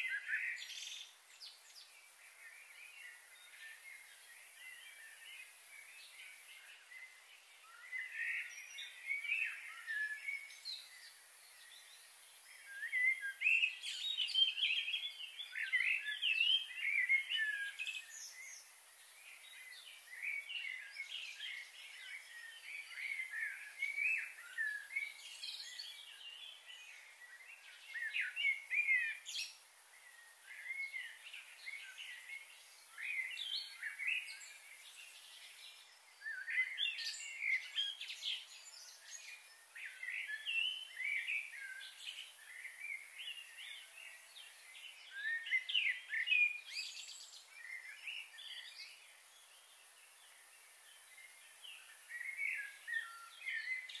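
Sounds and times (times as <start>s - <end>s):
faint steady hiss: 0.0s - 54.0s
small birds chirping: 0.0s - 54.0s.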